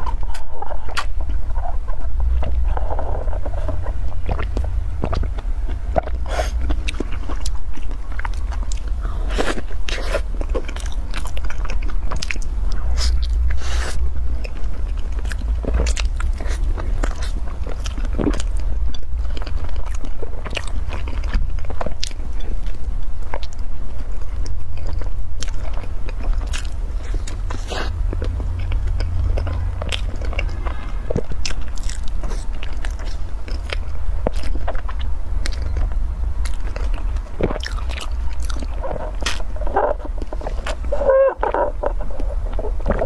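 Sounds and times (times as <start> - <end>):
crunching and chewing: 0.0 - 43.0
low hum: 0.0 - 43.0.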